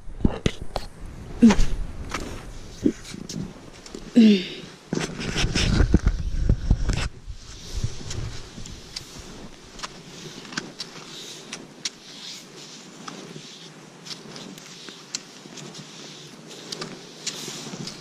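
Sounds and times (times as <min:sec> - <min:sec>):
skis swishing through powder snow: 0:01.1 - 0:18.0.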